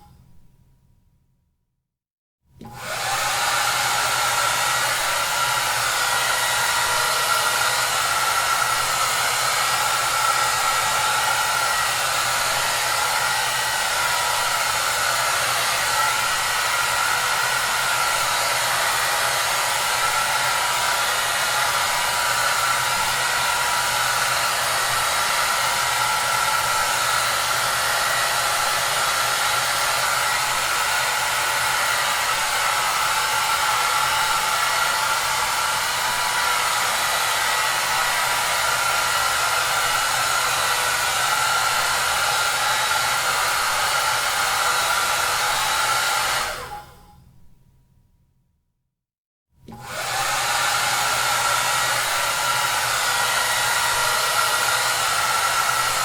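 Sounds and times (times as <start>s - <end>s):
hair dryer running: 2.6s - 47.1s, 49.6s - 56.0s.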